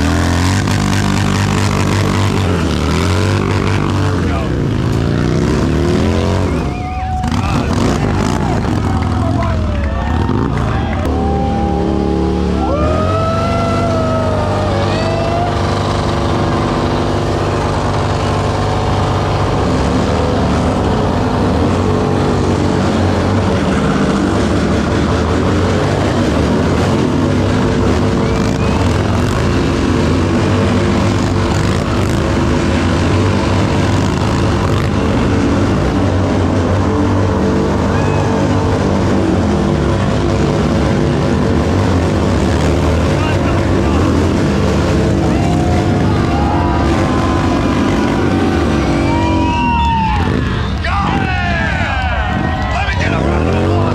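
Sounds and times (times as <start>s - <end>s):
motorcycle engines running: 0.0s - 53.9s.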